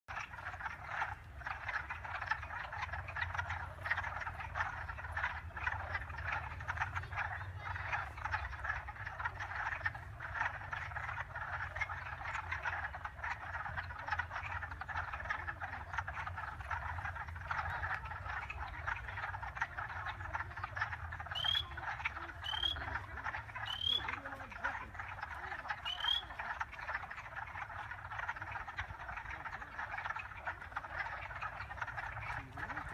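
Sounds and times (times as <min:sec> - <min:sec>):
frogs croaking in chorus: 0:00.1 - 0:32.9
low steady rumble: 0:00.2 - 0:32.9.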